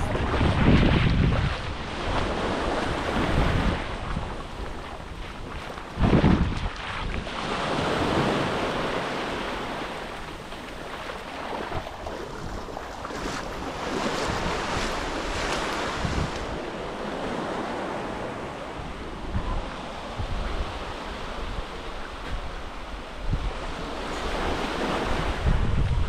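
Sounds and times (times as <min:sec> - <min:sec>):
surf washing onto sand: 0:00.0 - 0:26.0
wind buffeting microphone: 0:00.0 - 0:26.0.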